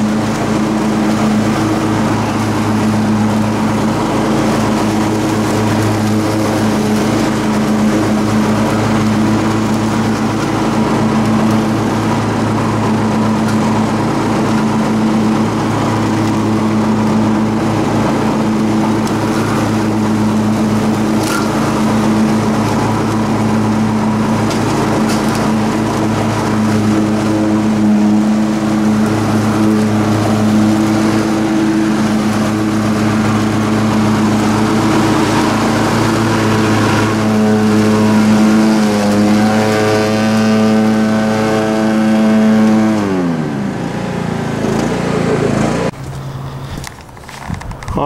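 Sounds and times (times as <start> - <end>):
lawn tractor engine running: 0.0 - 48.0.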